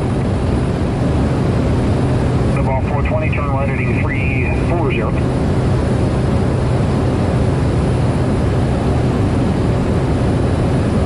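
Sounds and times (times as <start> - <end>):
turboprop engine drone in cockpit: 0.0 - 11.0.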